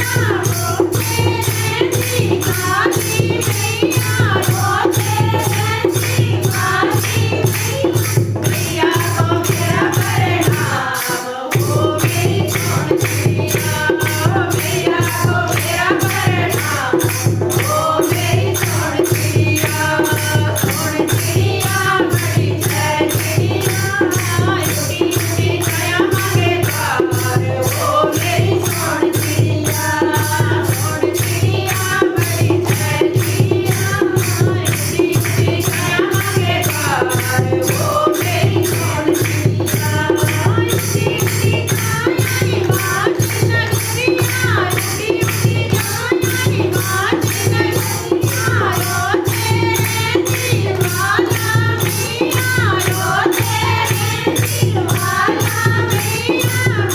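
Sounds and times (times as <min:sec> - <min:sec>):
jingling hand percussion: 0:00.0 - 0:56.9
voices singing devotional song: 0:00.0 - 0:56.9.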